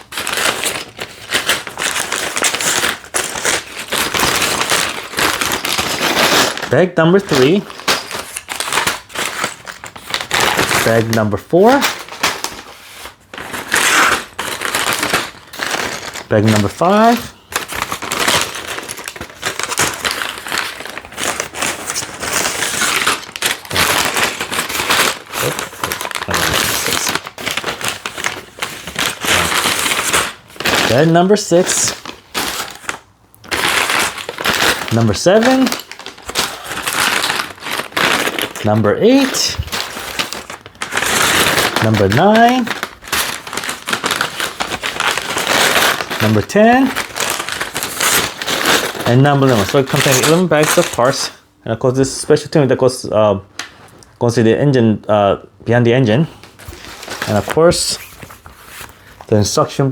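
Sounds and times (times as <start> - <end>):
paper bags crinkling: 0.0 - 51.4, 56.1 - 59.9.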